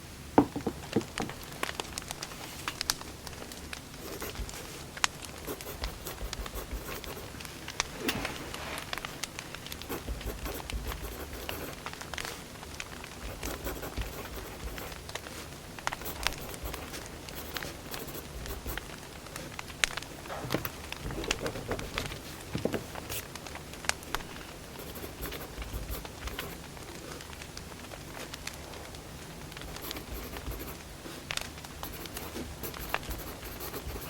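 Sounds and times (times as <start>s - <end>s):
firewood burning and crackling: 0.8s - 34.0s.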